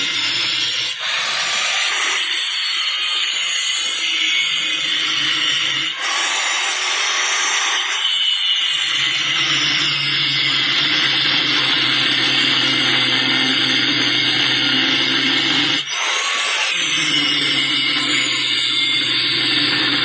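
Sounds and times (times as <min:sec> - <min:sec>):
angle grinder cutting steel: 0:00.0 - 0:20.0.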